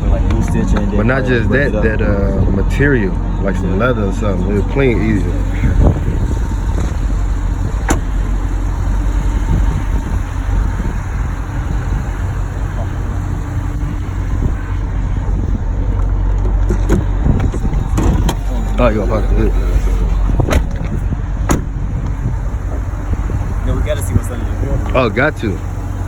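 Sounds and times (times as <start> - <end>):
engine rumbling: 0.0 - 26.0.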